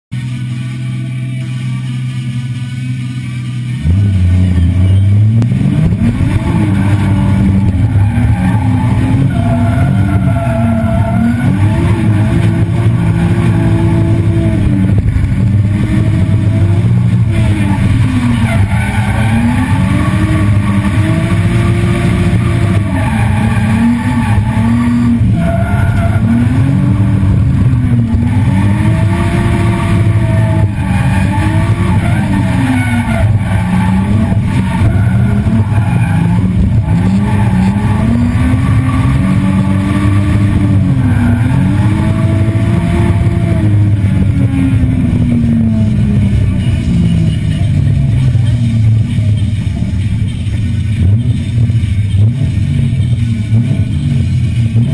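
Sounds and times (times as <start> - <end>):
car engine revving: 0.1 - 54.9.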